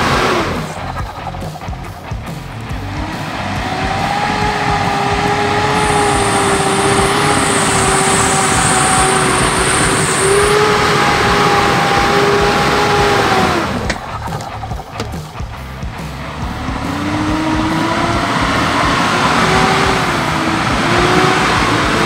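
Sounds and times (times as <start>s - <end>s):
engine revving with whine: 0.0s - 22.0s.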